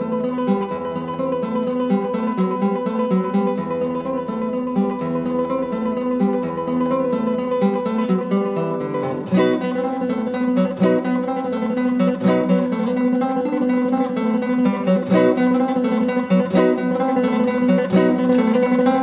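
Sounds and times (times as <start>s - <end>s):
flamenco acoustic guitar: 0.0s - 19.0s.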